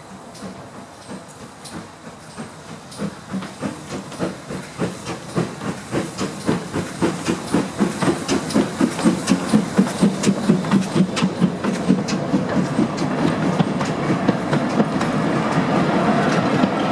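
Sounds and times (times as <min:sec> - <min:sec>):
steam locomotive chuffing: 0:00.0 - 0:16.9.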